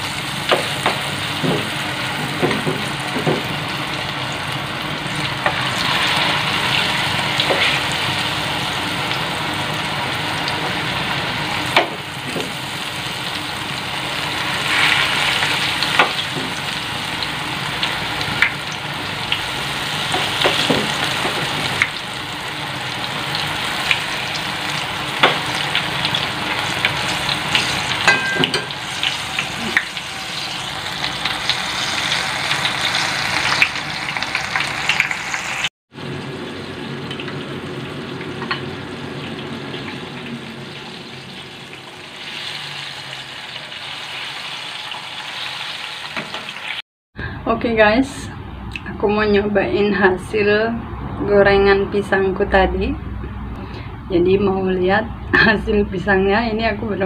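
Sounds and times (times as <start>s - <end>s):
food deep-frying in oil: 0.0s - 46.8s.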